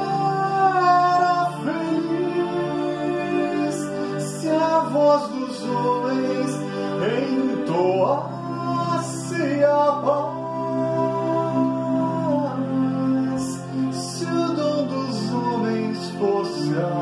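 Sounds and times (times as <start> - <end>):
electronic keyboard chords: 0.0 - 17.0
man singing: 0.0 - 17.0.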